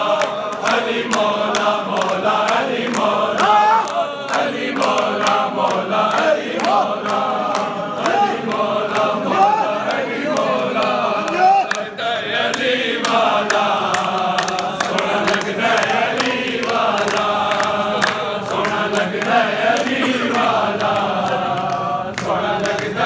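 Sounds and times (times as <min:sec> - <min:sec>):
crowd of men chanting: 0:00.0 - 0:23.0
hand claps: 0:00.0 - 0:23.0.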